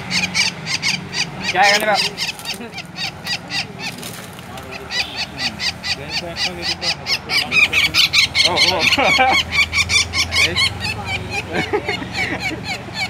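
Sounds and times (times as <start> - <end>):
faint low voices: 0.0 - 13.0
woodpecker harsh distress calls: 0.0 - 13.0.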